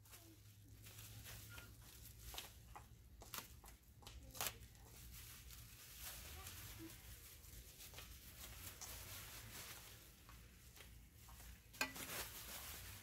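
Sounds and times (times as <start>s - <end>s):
bubble wrap rustling and crackling: 0.0s - 13.0s.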